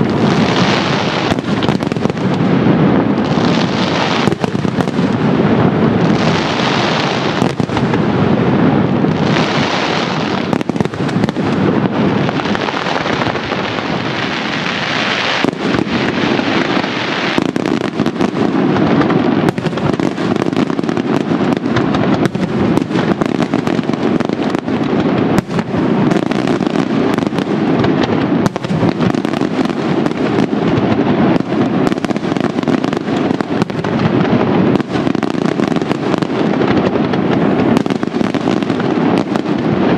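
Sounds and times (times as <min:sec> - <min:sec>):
fireworks bursts and bangs: 0:00.0 - 0:39.9
hissing crackle: 0:00.0 - 0:39.9.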